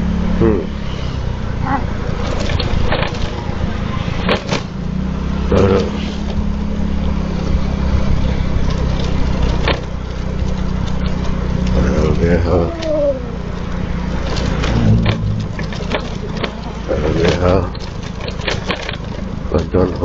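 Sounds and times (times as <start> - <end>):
motor scooter engine: 0.0 - 20.0.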